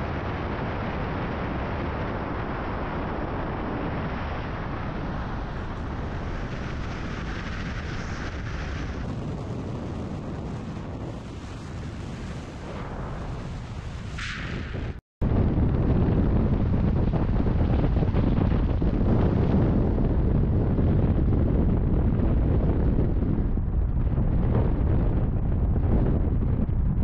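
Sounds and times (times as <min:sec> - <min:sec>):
rushing wind: 0:00.0 - 0:27.0
wind buffeting microphone: 0:00.0 - 0:27.0.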